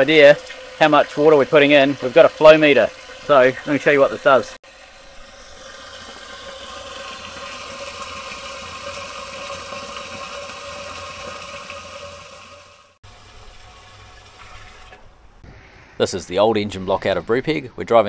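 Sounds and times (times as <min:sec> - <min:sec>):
water rushing through hose: 0:00.0 - 0:15.2.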